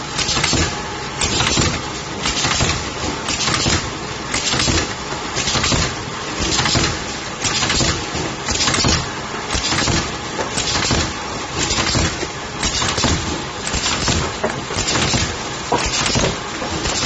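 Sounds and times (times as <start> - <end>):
machine mechanical noise: 0.0 - 17.0.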